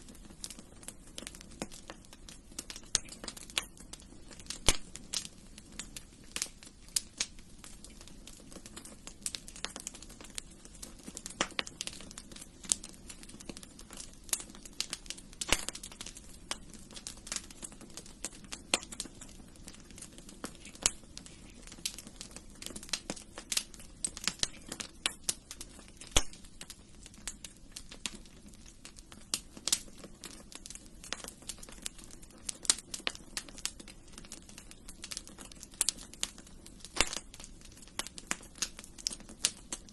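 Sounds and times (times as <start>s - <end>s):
sharp pops and snaps: 0.0s - 39.9s
wood fire crackling: 0.0s - 39.9s.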